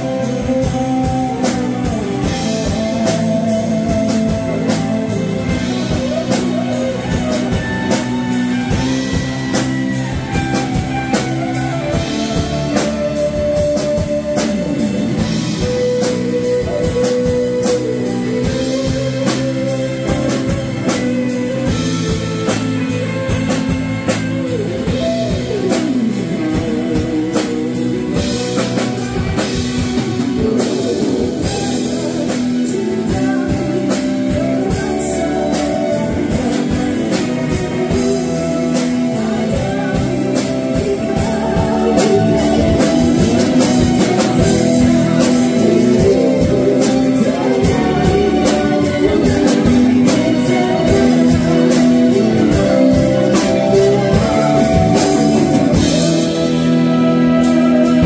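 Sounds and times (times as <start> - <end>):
blues guitar with bent notes: 0.0 - 58.0
drum kit beat: 0.0 - 58.0.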